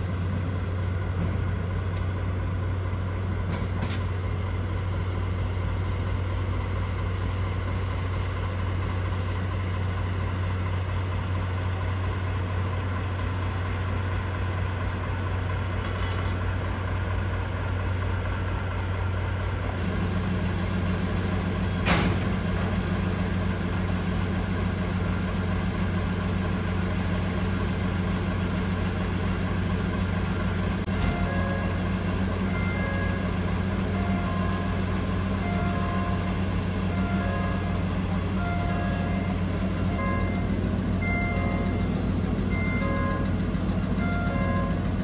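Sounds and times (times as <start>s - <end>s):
diesel locomotive idling: 0.0s - 45.0s.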